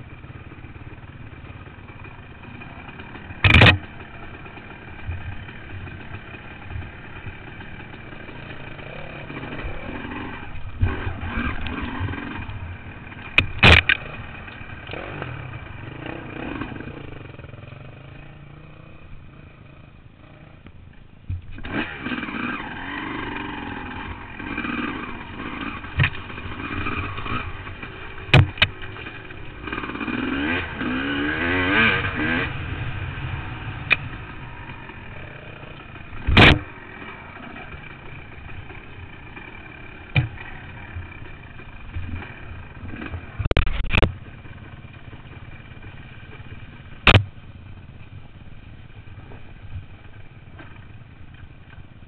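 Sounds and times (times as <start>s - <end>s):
dirt bike engine revving: 0.0s - 20.6s, 21.5s - 47.9s.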